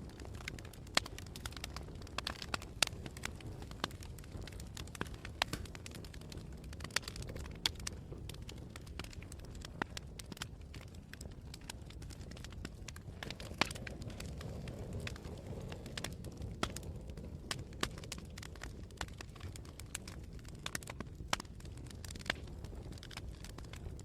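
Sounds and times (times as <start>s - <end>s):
campfire crackling and popping: 0.0s - 24.0s
low rumble of fire: 0.0s - 24.0s.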